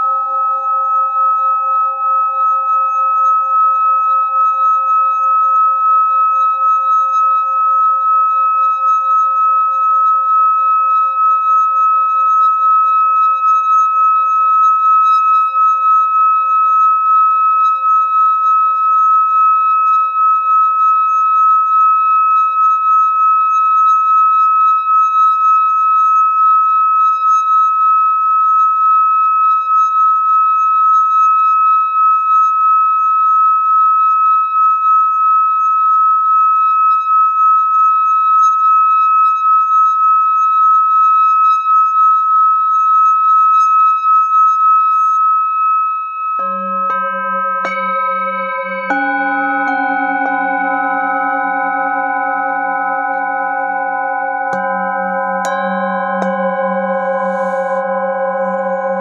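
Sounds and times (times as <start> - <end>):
singing bowl ringing tone: 0.0 - 59.0.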